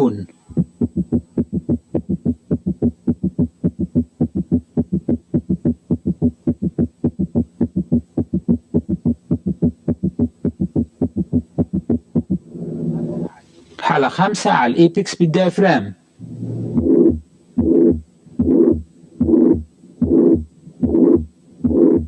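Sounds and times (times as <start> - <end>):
heartbeat through stethoscope: 0.5 - 12.5, 16.2 - 22.0.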